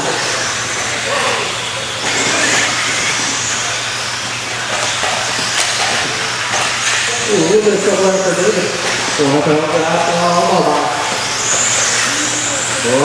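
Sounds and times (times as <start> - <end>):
rc cars motor and tyre hiss: 0.0 - 13.0.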